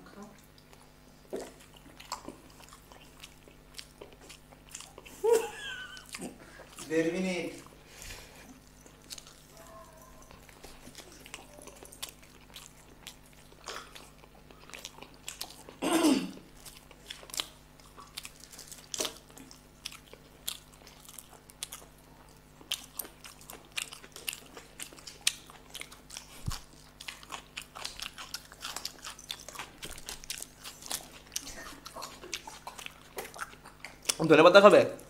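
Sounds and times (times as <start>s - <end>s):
faint steady hum: 0.0s - 35.0s
chewing and mouth clicks: 0.4s - 6.9s, 7.5s - 15.8s, 16.4s - 35.0s.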